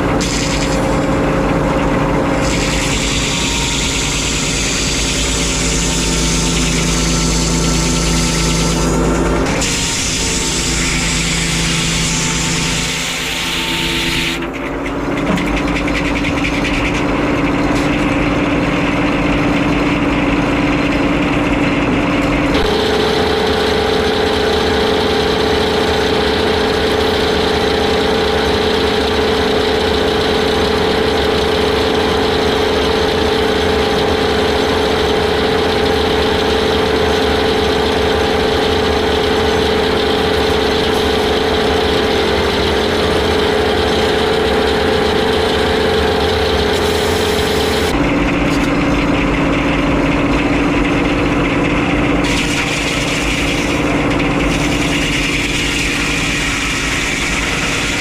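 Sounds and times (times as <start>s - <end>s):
sawmill humming: 0.0s - 58.0s.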